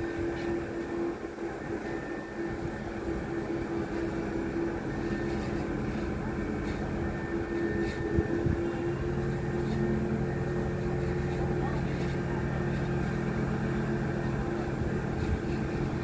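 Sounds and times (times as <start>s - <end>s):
heavy machinery engines droning: 0.0s - 16.0s
low hum: 0.0s - 16.0s.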